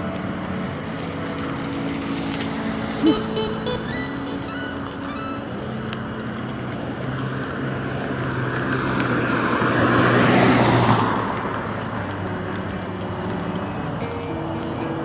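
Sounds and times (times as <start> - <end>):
road vehicle passing by: 0.0 - 15.0.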